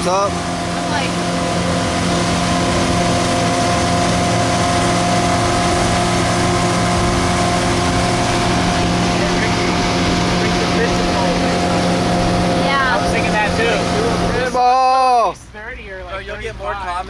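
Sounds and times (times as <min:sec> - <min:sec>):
motorboat engine drone: 0:00.0 - 0:17.0
wind and water noise: 0:00.0 - 0:17.0.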